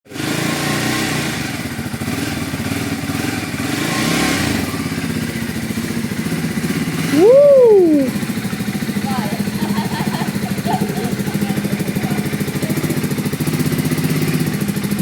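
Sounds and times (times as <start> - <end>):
motorcycle engine idling: 1.3 - 15.0.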